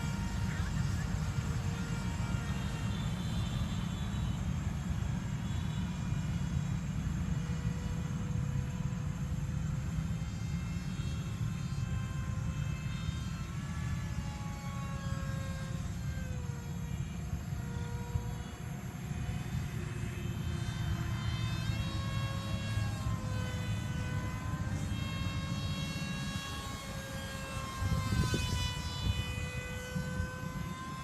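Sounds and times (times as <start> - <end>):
model plane motor whining: 0.0 - 31.0.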